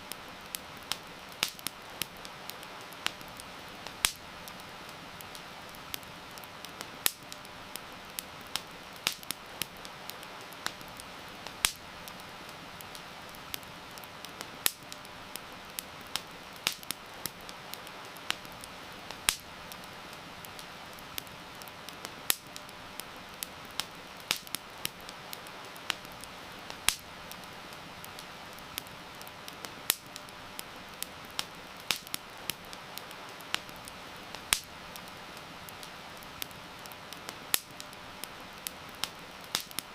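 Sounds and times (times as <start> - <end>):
campfire crackling and popping: 0.0 - 39.9
heavy rain hiss: 0.0 - 39.9.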